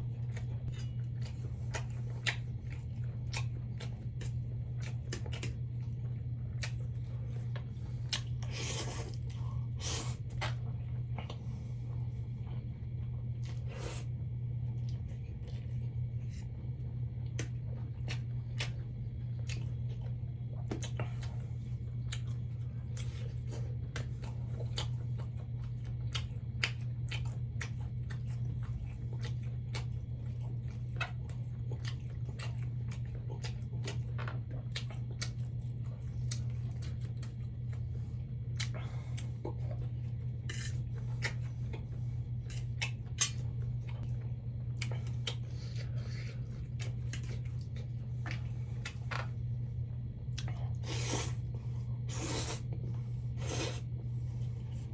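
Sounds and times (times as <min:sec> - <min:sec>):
person chewing noodles: 0:00.0 - 0:54.9.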